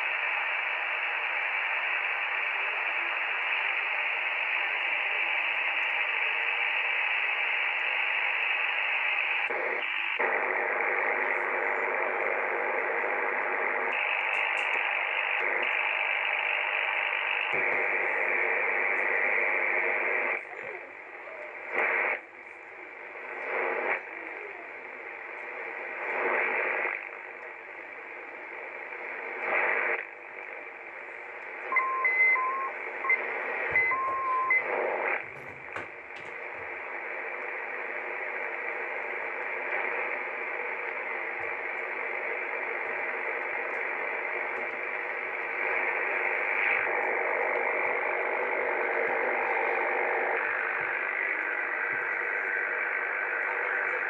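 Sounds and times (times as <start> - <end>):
passing radio signals: 0.0 - 54.0
radio receiver hiss and static: 0.0 - 54.0.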